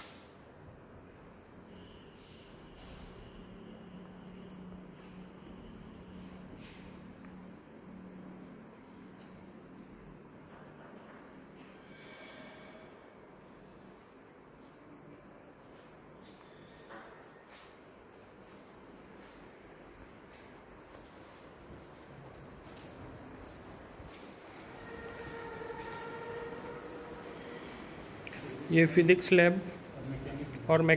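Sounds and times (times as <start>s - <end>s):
insects chirring: 0.0s - 30.9s.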